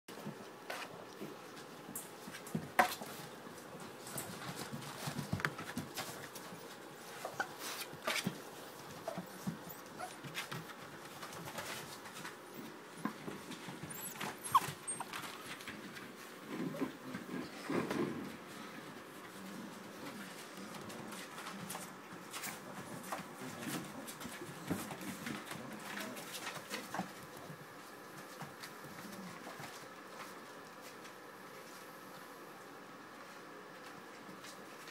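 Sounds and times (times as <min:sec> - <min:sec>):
scratching and rustling on paper: 0:00.1 - 0:32.2
puppies scuffing on vinyl floor: 0:00.1 - 0:32.4.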